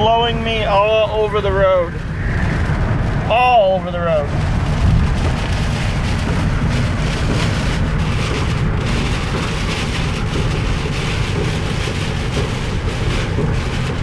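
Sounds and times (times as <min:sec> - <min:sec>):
rain and wind on moving car: 0:00.0 - 0:14.0.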